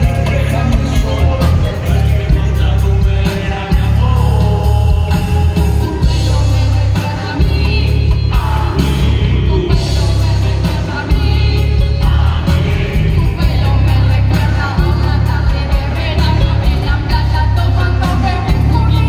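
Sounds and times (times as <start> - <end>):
loud music with heavy bass: 0.0 - 19.0
person singing: 0.0 - 19.0.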